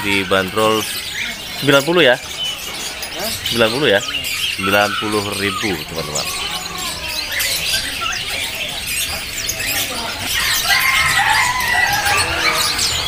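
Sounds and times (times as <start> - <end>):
budgerigars chirping: 0.0 - 13.0
whistled bird notes: 0.0 - 13.0.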